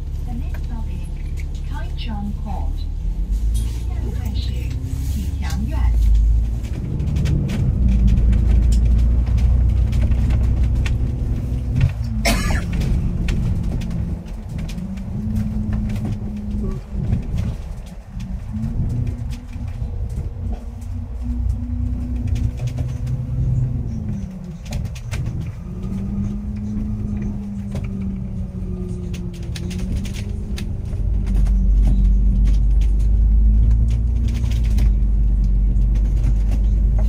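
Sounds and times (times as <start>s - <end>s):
bus engine running: 0.0s - 37.0s
deep rumble: 0.0s - 37.0s
light clicks and rattles: 3.4s - 37.0s.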